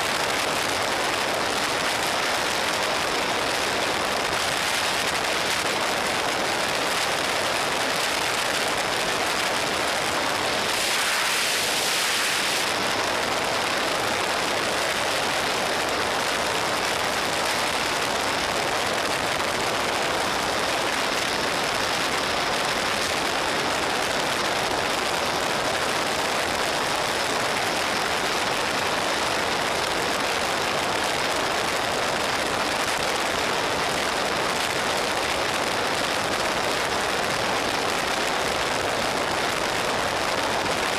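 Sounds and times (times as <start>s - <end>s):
wind rush over microphone: 0.0s - 40.9s.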